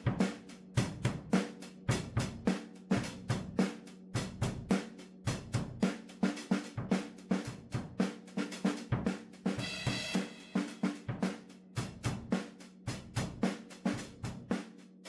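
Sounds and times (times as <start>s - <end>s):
music with drum beat: 0.0s - 15.0s.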